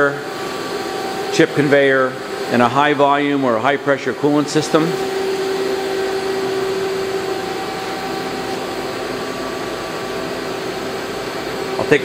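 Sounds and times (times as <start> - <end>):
machine shop equipment whirring: 0.0 - 12.0.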